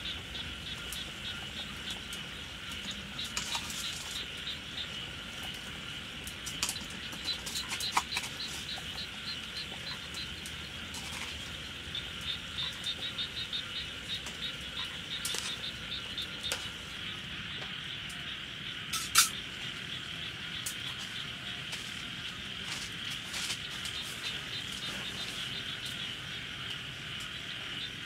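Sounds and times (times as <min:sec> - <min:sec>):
insects chirping: 0:00.0 - 0:28.0
rain hiss: 0:00.0 - 0:28.0.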